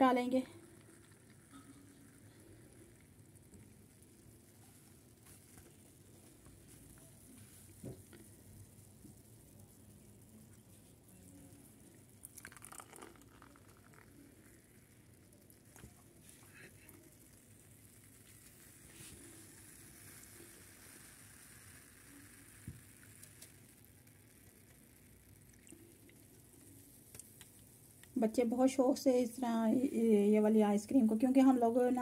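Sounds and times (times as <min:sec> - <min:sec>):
soda fizzing and pouring: 0:00.0 - 0:32.0.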